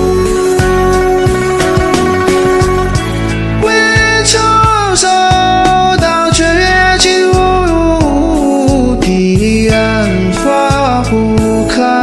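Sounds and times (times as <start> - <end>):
plucked guitar with steady beat: 0.0 - 12.0.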